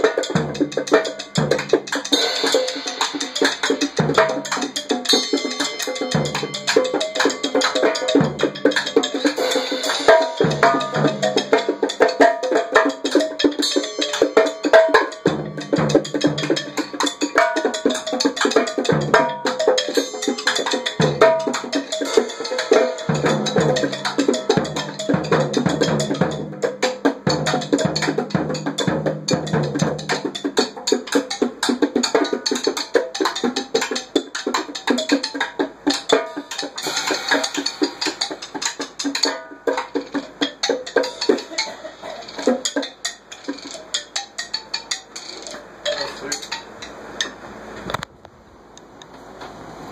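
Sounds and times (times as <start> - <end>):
gourdaphone: 0.0 - 46.6
drum kit: 0.0 - 47.4
bongos: 0.0 - 48.0.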